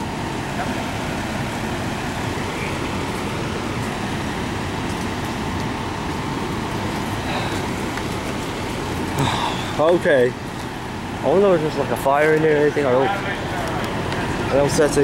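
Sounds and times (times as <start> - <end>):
fire engine idling: 0.0 - 15.0
outdoor traffic: 0.0 - 15.0.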